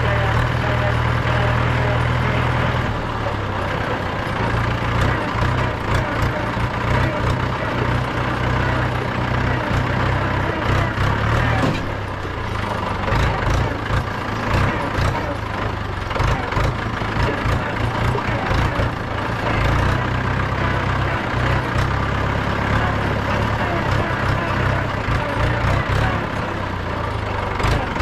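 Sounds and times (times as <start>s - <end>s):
tractor diesel engine running: 0.0s - 28.0s
knocks and rattles: 4.2s - 28.0s.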